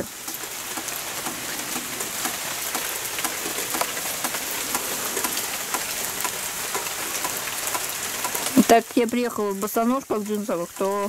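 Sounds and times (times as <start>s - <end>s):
rain on foliage and wood: 0.0s - 11.0s
raindrops ticking close by: 0.0s - 11.0s.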